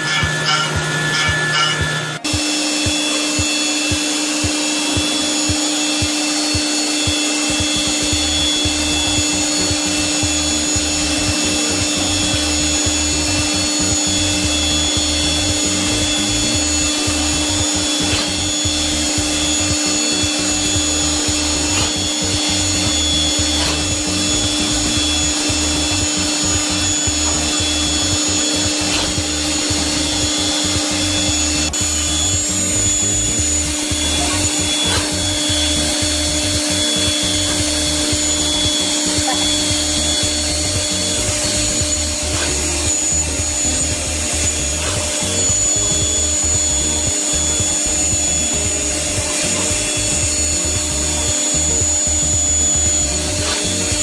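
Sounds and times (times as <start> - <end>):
low regular throbbing: 0.0 - 54.0
milling machine spindle whine: 0.0 - 54.0.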